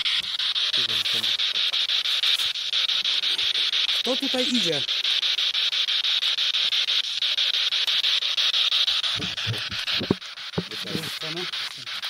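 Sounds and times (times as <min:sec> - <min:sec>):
radio scanner hissing in pulses: 0:00.0 - 0:12.0.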